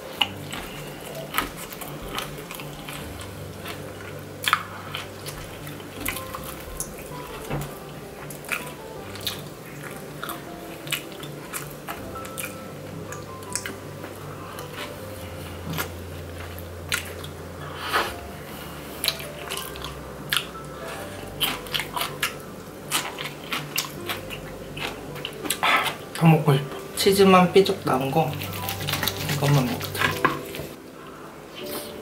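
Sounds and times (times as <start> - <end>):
crunchy chewing: 0.0 - 26.9, 28.0 - 30.8
quiet background music: 0.0 - 32.0.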